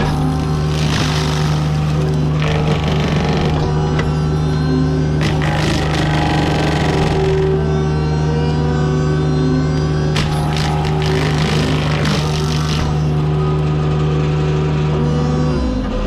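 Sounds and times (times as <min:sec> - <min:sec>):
excavator engine drone: 0:00.0 - 0:16.0
mulcher grinding wood: 0:00.0 - 0:16.0.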